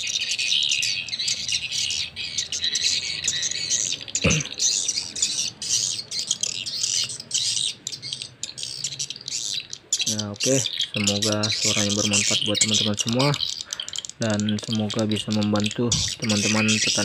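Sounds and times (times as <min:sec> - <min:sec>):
bird call through tweeters: 0:00.0 - 0:17.0.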